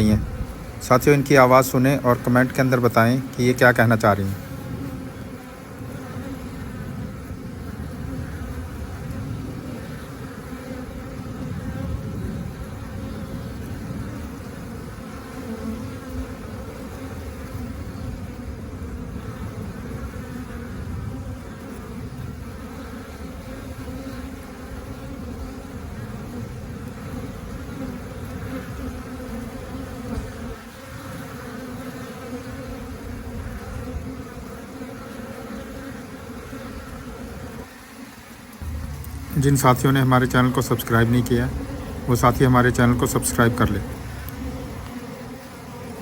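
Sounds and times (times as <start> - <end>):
honeybees buzzing: 0.0 - 46.0.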